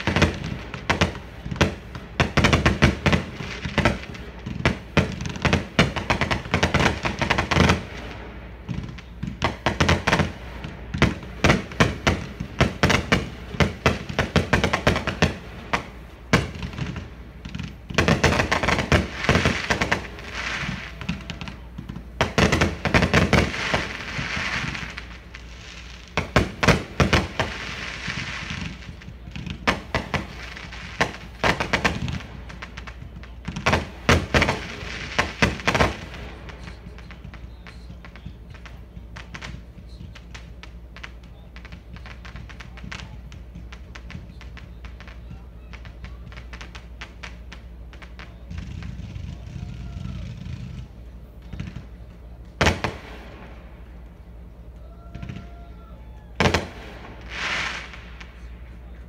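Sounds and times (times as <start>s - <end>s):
fireworks crackling: 0.0s - 59.0s
fireworks shells bursting: 0.0s - 59.0s.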